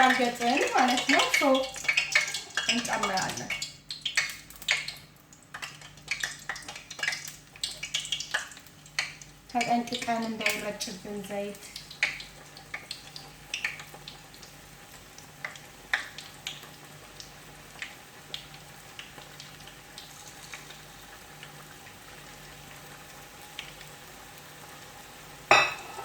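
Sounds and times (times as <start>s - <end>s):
oil popping and crackling: 0.0s - 25.8s
food deep-frying in hot oil: 0.0s - 26.0s.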